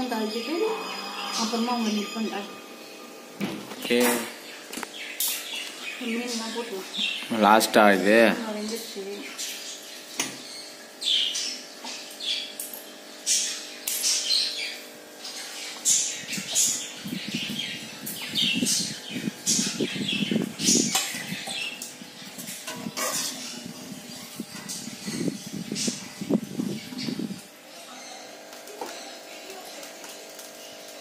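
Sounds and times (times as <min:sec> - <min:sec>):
small birds chirping: 0:03.7 - 0:31.0.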